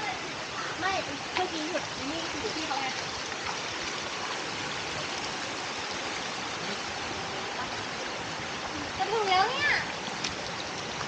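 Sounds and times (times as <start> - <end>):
stream pouring over rocks: 0.0 - 11.0.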